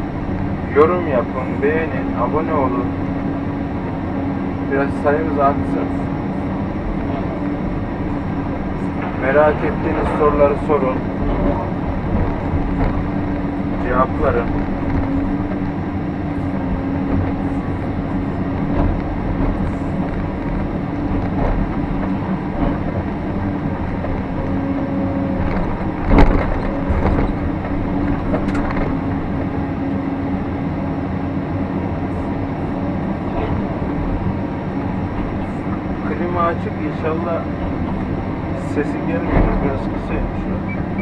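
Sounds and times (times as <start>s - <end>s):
excavator engine and hydraulics: 0.0s - 41.0s.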